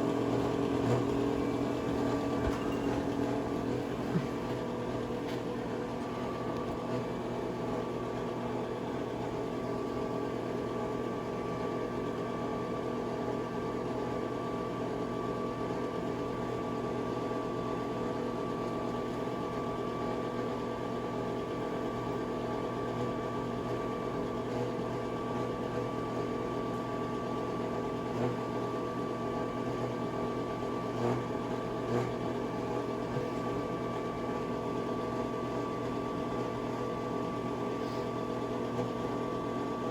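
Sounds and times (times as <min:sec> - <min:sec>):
exhaust fan whirring hum: 0:00.0 - 0:39.9.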